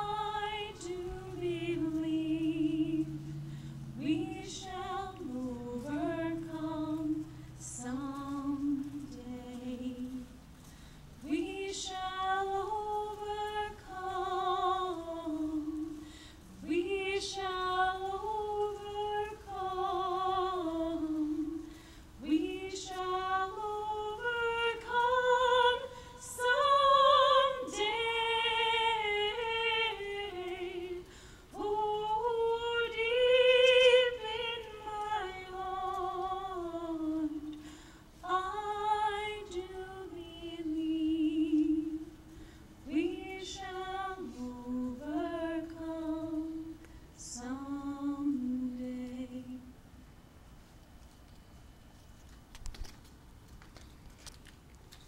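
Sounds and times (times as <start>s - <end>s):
woman singing slow melody: 0.0s - 50.0s.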